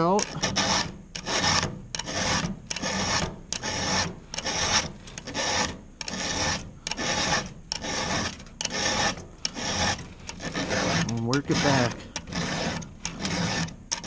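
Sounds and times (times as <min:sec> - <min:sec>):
file rasping on chainsaw chain: 0:00.0 - 0:14.0.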